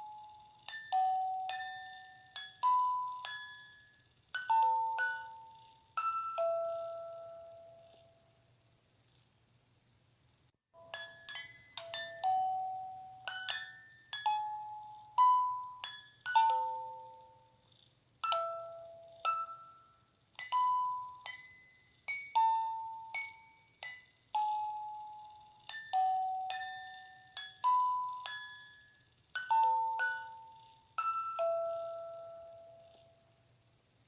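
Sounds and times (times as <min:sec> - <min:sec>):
bell-like lullaby melody: 0:00.0 - 0:08.2, 0:10.8 - 0:17.6, 0:18.2 - 0:33.4.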